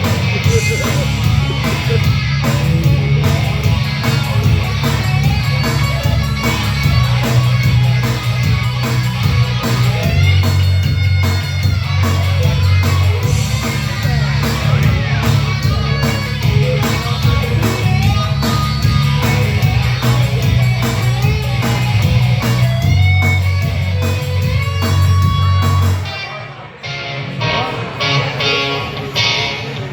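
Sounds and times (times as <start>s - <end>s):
heavy bass line: 0.0s - 26.1s
drums: 0.0s - 26.3s
electric guitar: 0.0s - 29.9s.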